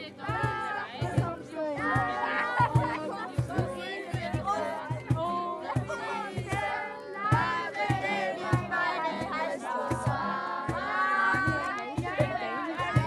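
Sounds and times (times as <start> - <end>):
steady drum beat: 0.0 - 13.0
voices singing: 0.0 - 13.0.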